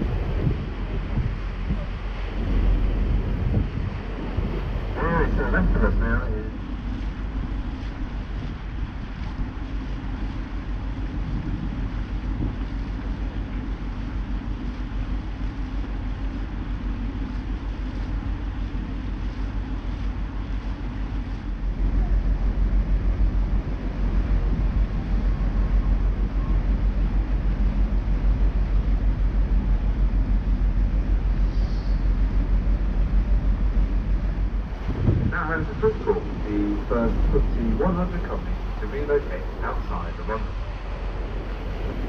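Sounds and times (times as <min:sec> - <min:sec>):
boat engine running: 0:00.0 - 0:42.0
water churning: 0:00.0 - 0:42.0
wind on the microphone: 0:00.0 - 0:42.0.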